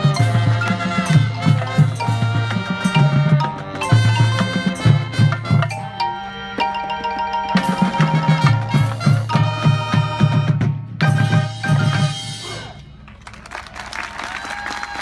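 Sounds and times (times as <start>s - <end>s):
steady drum beat: 0.0s - 12.7s
brass and saxophones: 0.0s - 13.0s.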